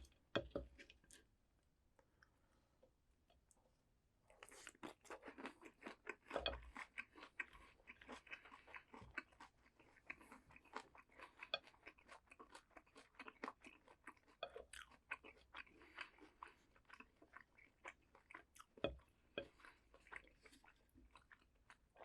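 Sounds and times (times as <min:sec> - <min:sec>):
crunchy chewing: 0:04.3 - 0:22.0.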